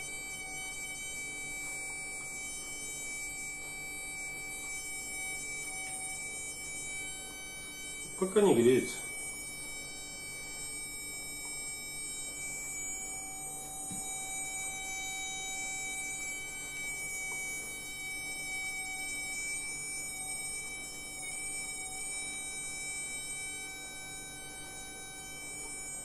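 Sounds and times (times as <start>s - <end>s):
small motor high whine: 0.0s - 26.0s.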